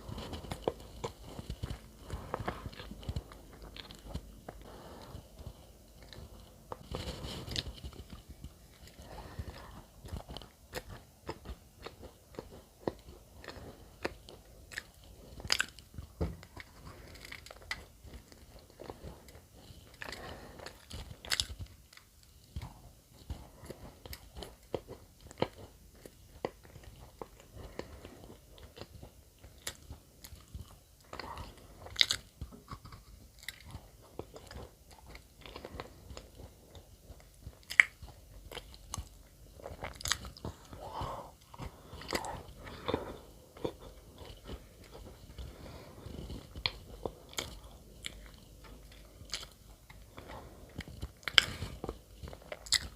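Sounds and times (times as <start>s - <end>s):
person chewing bread: 0.0s - 52.9s.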